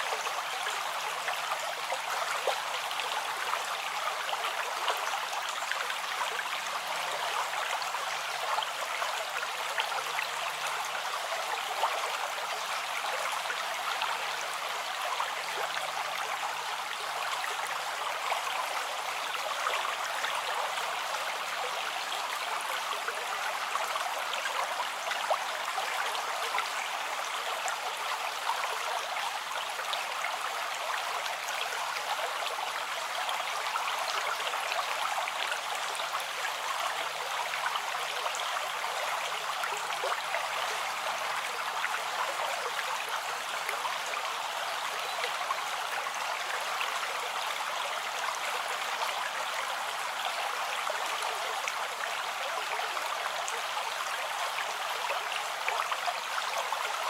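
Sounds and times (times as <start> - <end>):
river water over rocks: 0.0 - 57.0.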